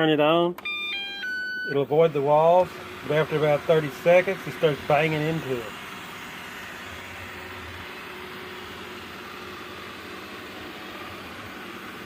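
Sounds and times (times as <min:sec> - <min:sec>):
robot vacuum running: 0:01.8 - 0:12.0.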